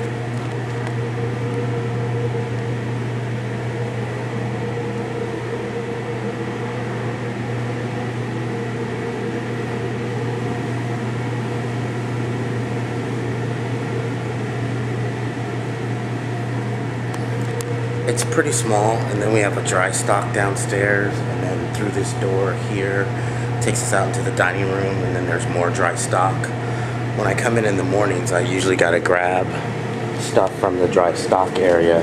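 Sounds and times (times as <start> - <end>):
kitchen machinery humming: 0.0 - 32.0.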